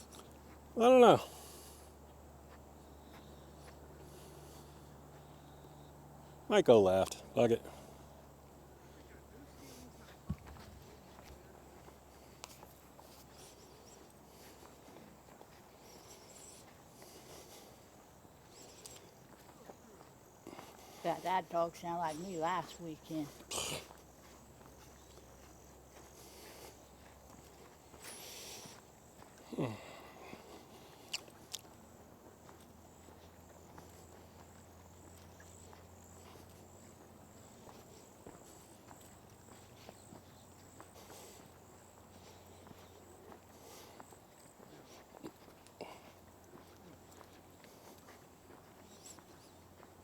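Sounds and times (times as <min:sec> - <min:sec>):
faint footsteps on a trail: 0:00.0 - 0:50.0.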